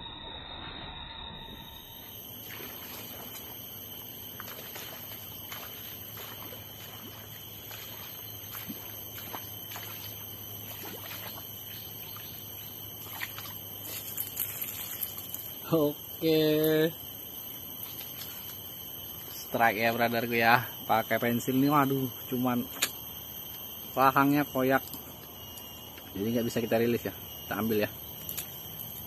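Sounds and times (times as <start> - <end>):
steady high-pitched whine: 0.0 - 29.0.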